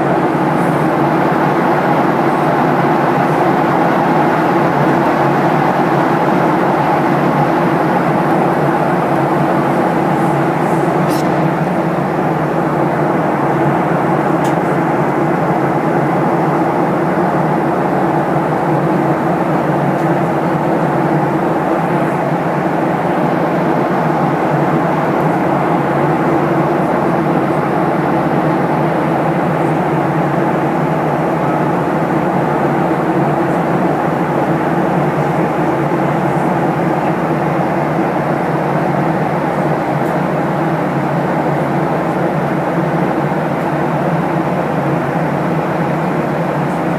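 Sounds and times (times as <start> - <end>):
airliner cabin engine noise: 0.0 - 46.9.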